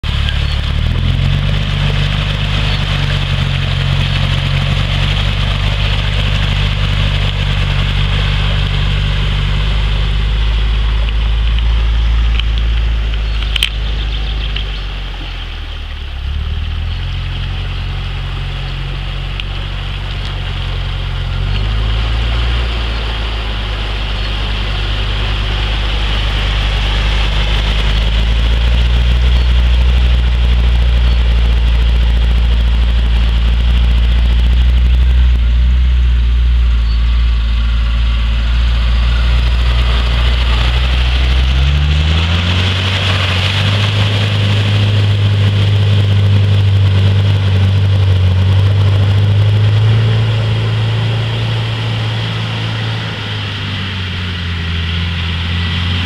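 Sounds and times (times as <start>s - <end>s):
car engine running at low revs: 0.0s - 56.0s
water hissing around wheels: 0.0s - 56.0s.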